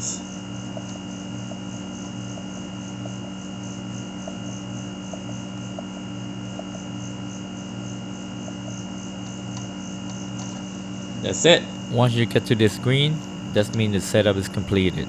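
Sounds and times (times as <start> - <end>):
low machine hum: 0.0 - 15.0
thin high whine: 0.0 - 15.0.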